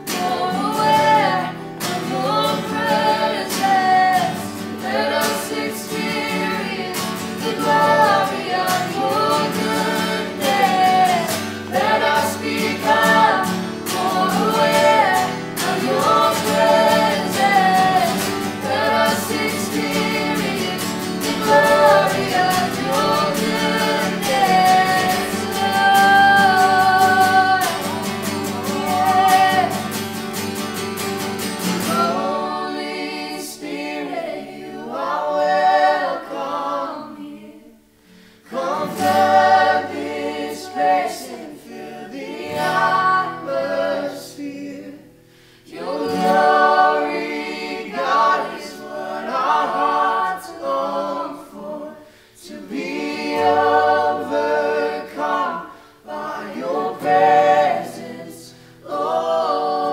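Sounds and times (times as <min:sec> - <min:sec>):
voices singing in harmony: 0:00.0 - 0:30.4, 0:31.4 - 0:59.9
acoustic guitars: 0:00.0 - 0:59.9.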